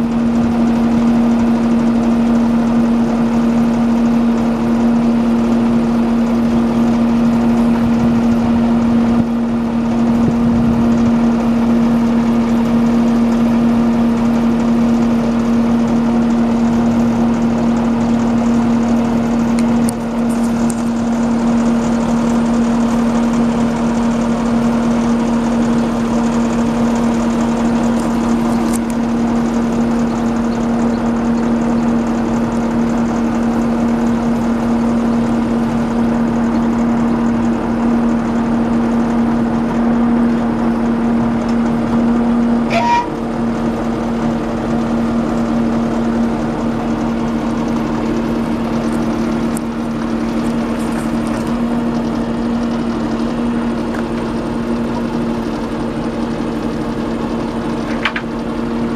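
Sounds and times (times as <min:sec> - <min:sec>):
truck engine droning: 0:00.0 - 0:58.9.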